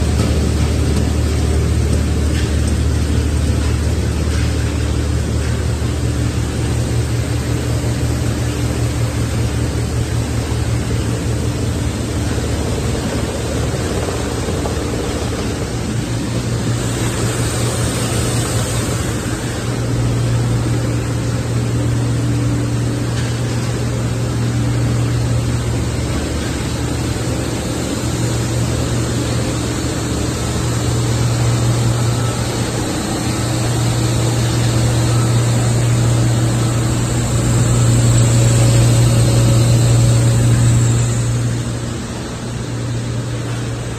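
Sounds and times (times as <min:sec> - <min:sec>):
electric motors humming: 0:00.0 - 0:43.9
machine noise: 0:00.0 - 0:43.9.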